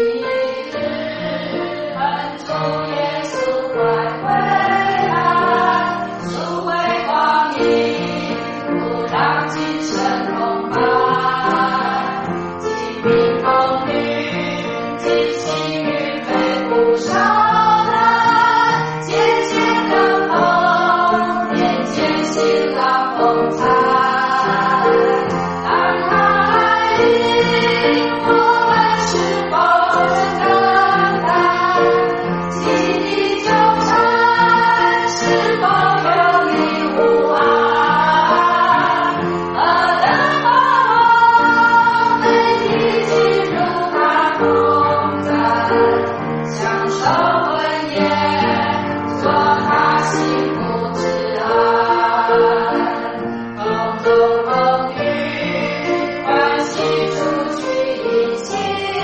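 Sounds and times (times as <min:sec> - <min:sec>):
choir singing: 0:00.0 - 0:59.0
musical accompaniment: 0:00.0 - 0:59.0.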